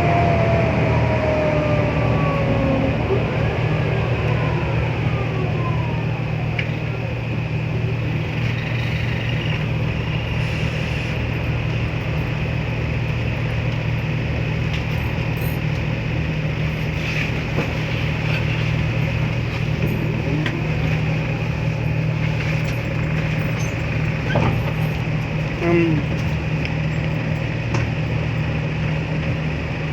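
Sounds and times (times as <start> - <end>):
faint whine: 0.0 - 25.0
bus engine deep hum: 0.0 - 29.9.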